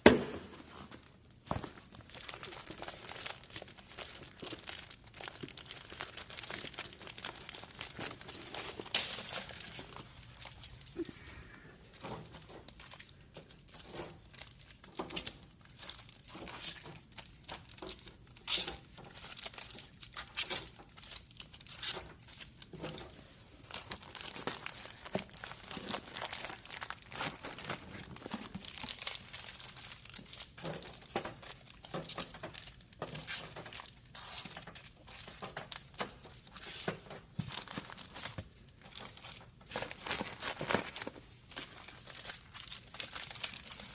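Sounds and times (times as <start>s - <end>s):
plastic snack bags crinkling: 0.5s - 43.9s.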